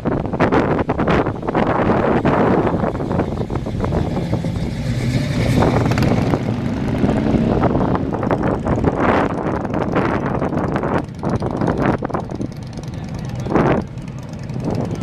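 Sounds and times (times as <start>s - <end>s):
car engine rumbling: 0.0s - 15.0s
motorcycle engines: 0.0s - 15.0s.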